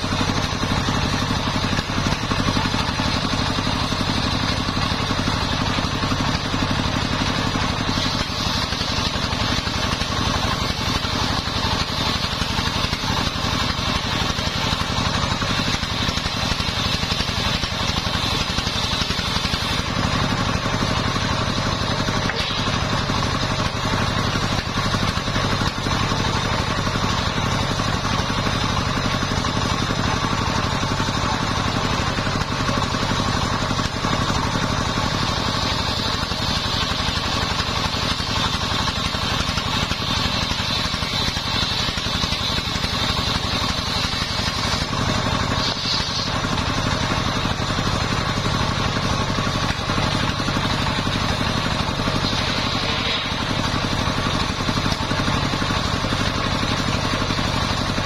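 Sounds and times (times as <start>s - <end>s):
engine running steadily: 0.0s - 58.0s
saw blade whining through wood: 0.0s - 58.0s.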